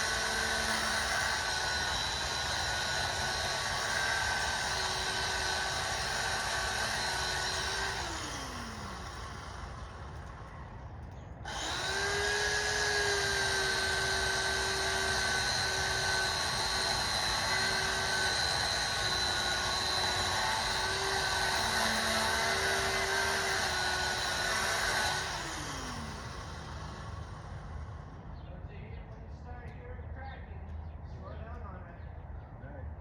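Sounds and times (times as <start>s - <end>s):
electric saw cutting tree trunk: 0.0s - 10.8s, 11.4s - 28.2s.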